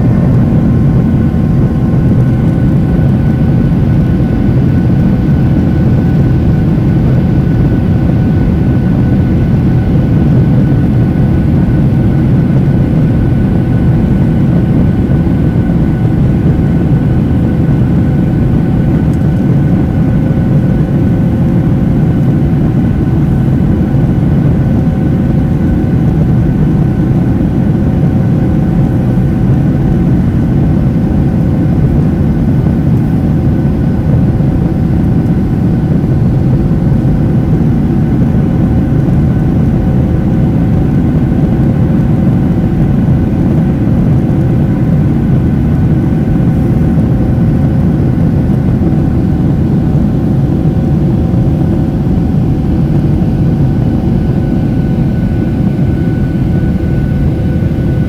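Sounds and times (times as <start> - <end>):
airplane cabin engine rumble: 0.0 - 58.0
faint turbofan hums: 0.0 - 58.0.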